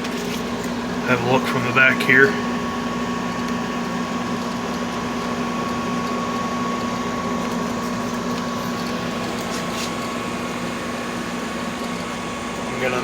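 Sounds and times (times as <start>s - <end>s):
air conditioner fan rushing: 0.0s - 13.0s
constant hum: 0.0s - 13.0s.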